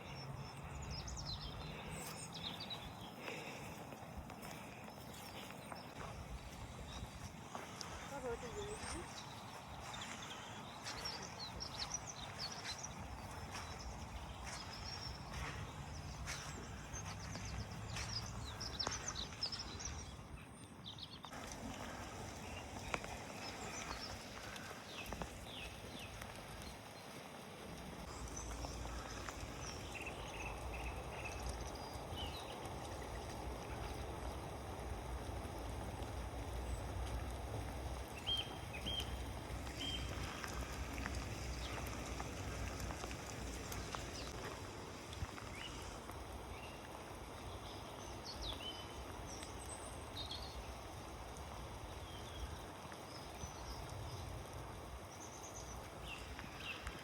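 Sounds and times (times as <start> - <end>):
rain falling: 0.0 - 20.3, 21.2 - 57.0.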